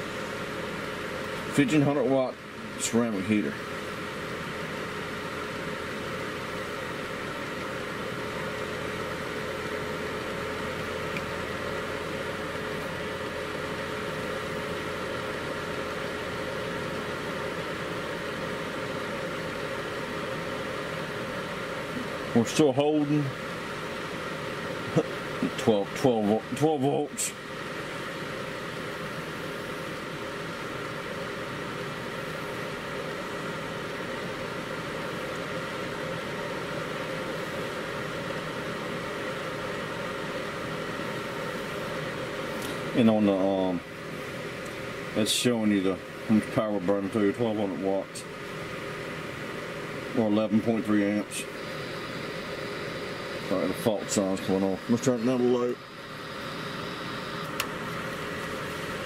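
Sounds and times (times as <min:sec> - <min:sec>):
constant hum: 0:00.0 - 0:59.0
heater fan whirring: 0:00.0 - 0:59.0.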